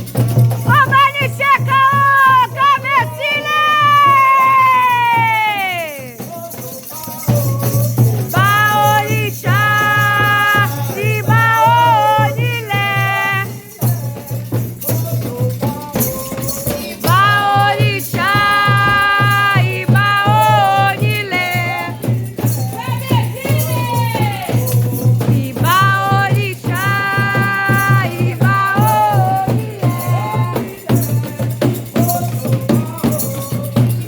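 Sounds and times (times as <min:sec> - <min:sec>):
rattle shaken: 0:00.0 - 0:34.0
voices chanting: 0:00.2 - 0:34.0.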